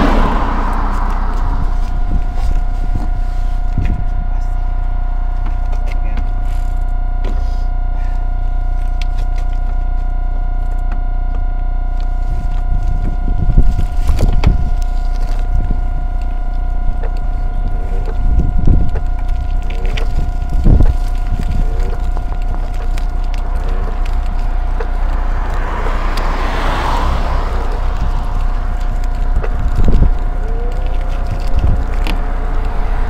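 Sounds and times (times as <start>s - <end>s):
electric motor whine: 0.0s - 33.0s
low rumble: 0.0s - 33.0s.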